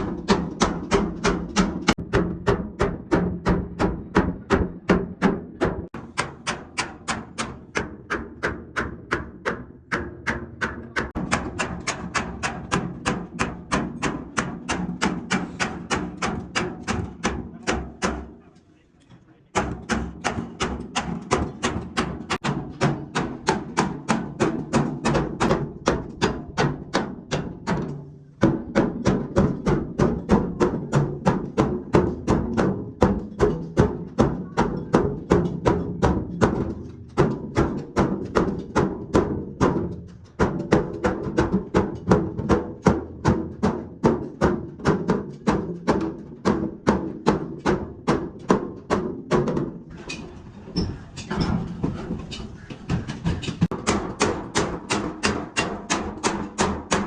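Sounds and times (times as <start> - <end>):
hammer on metal tank: 0.0 - 18.4, 19.5 - 49.7, 50.8 - 57.0.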